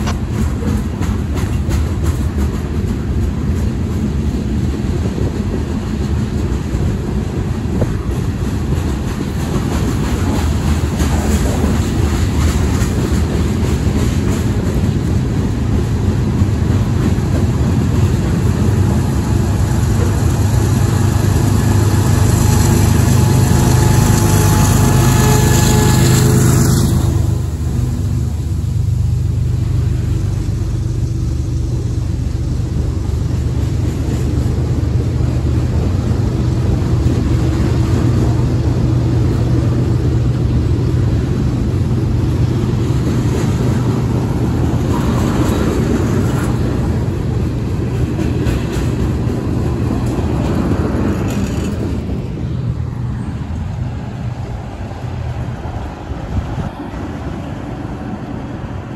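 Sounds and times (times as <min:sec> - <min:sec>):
fine clicking of train wheels: 0:00.0 - 0:25.9, 0:27.8 - 0:55.8
steel wheels rumbling on rail: 0:00.0 - 0:58.9.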